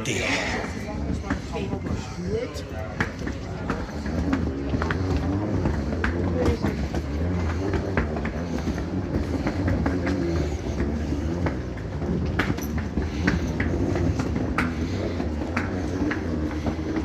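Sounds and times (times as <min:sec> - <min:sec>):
suitcase wheels rattling on paving: 0:01.4 - 0:17.0.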